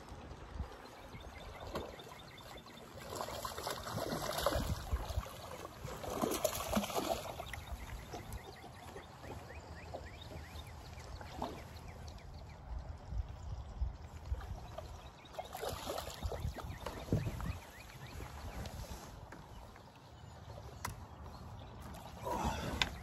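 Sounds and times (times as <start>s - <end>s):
water lapping against boat hull: 0.8s - 12.6s, 14.0s - 23.0s.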